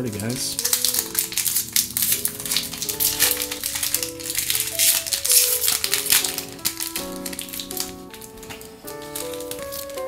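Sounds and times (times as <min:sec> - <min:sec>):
card packs crinkling: 0:00.0 - 0:10.0
upbeat plucked background music: 0:00.0 - 0:10.0.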